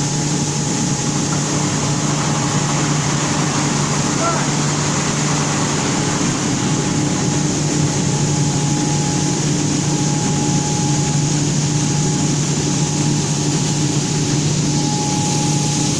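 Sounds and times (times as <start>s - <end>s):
grain dryer machinery humming: 0.0s - 15.9s
thin machine whine: 0.0s - 15.9s.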